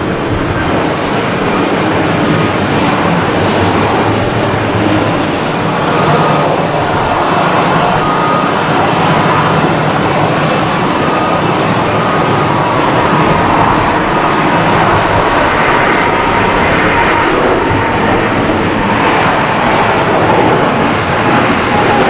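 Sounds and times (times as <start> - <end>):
jet engines roaring at takeoff: 0.0 - 22.0.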